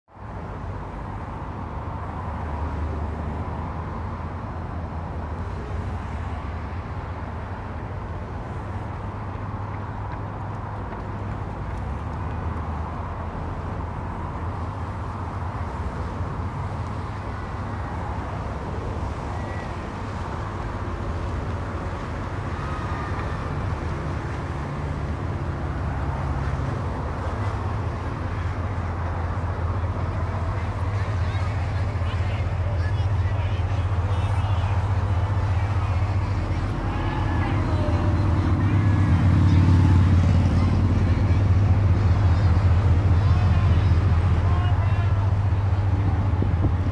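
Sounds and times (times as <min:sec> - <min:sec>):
traffic rumble on bridge: 0:00.1 - 0:46.9.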